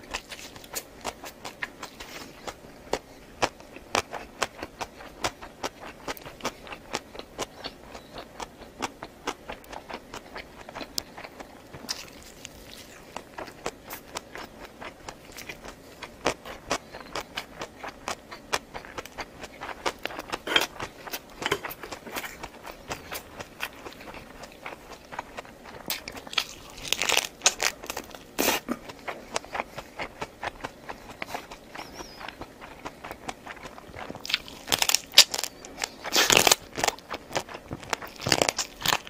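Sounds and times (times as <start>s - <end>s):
chewing with wet mouth clicks: 0.0s - 39.0s.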